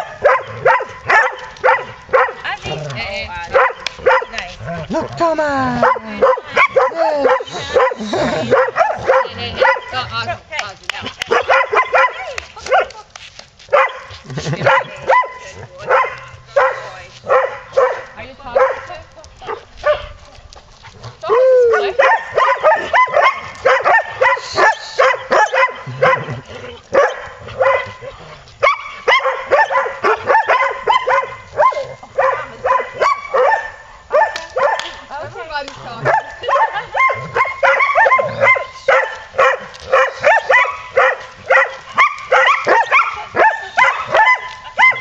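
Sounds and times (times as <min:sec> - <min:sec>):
dog barking high: 0:00.0 - 0:02.6, 0:03.5 - 0:04.4, 0:05.7 - 0:10.0, 0:11.3 - 0:12.9, 0:13.7 - 0:20.2, 0:21.7 - 0:34.9, 0:36.0 - 0:45.0.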